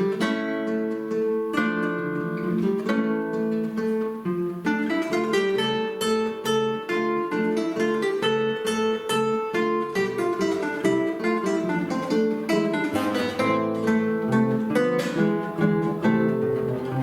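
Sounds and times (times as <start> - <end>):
acoustic guitar duet: 0.0 - 17.0.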